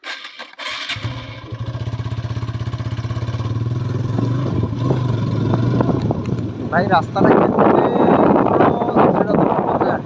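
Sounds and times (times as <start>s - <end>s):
motorcycle engine running: 0.6s - 10.0s.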